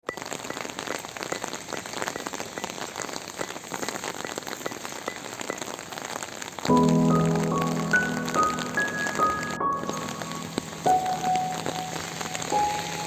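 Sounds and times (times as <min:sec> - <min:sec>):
rain patter: 0:00.0 - 0:13.0.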